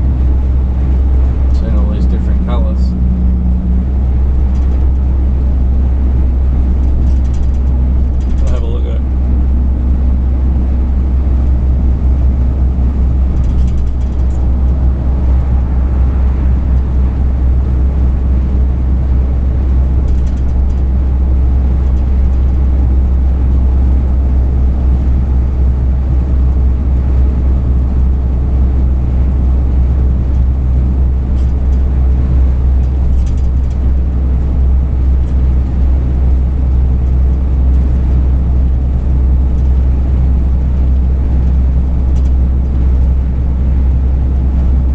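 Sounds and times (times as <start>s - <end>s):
truck engine and road rumble: 0.0s - 44.9s.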